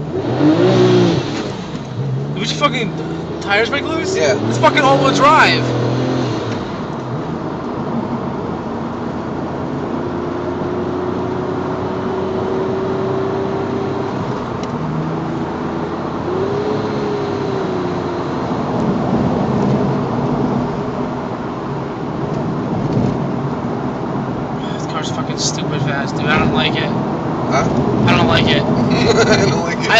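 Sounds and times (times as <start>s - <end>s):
car engine running: 0.0s - 29.9s
tyre and road noise: 0.0s - 29.9s.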